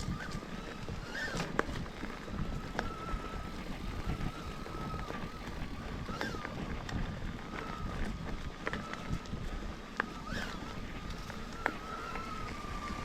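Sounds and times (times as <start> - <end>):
bike tyres rumbling on dirt: 0.0 - 13.0
faint wavering whine: 0.0 - 13.0
wind buffeting microphone: 0.0 - 13.0.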